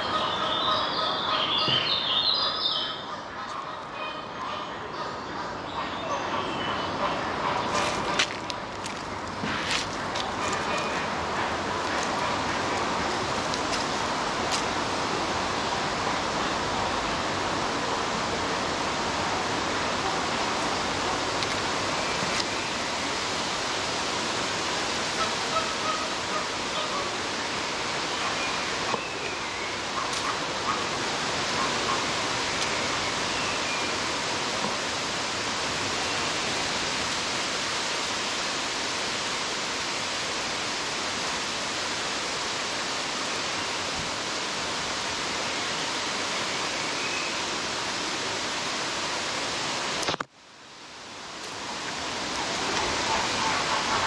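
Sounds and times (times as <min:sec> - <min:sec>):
rushing outdoor background noise: 0:00.0 - 0:54.0.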